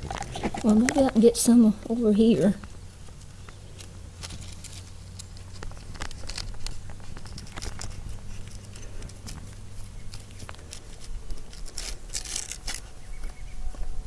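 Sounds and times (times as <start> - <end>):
clicks and rustles from hands: 0.0 - 1.2, 2.6 - 13.9
steady low hum: 0.0 - 14.0.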